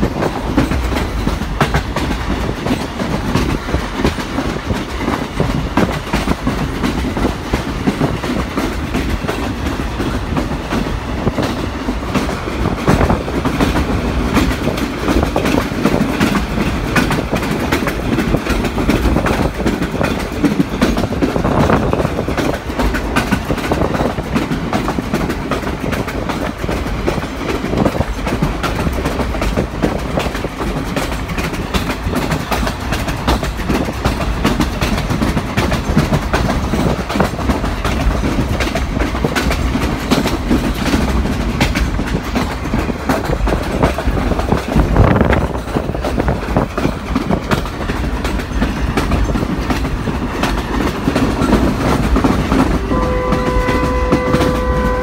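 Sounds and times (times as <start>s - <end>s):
train rumbling: 0.0s - 55.0s
wheels clacking on track: 0.0s - 55.0s.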